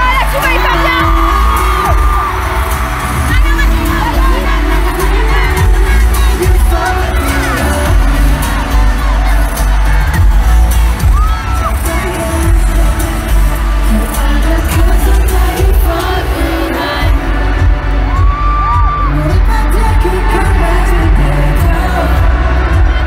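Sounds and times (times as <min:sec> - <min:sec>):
audience screaming and cheering: 0:00.0 - 0:23.0
bass-heavy pop backing track: 0:00.0 - 0:23.0
person singing: 0:00.0 - 0:23.0.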